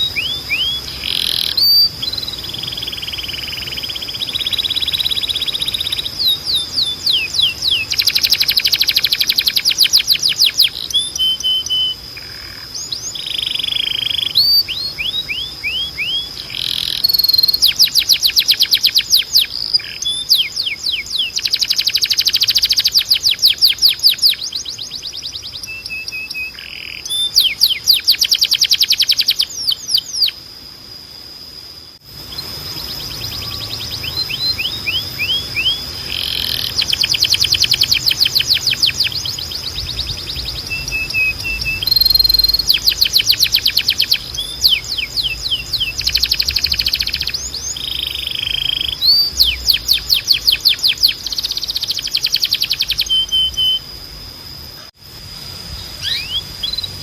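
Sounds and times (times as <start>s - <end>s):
canary singing trills: 0.0s - 30.8s, 31.5s - 54.9s, 55.6s - 57.0s.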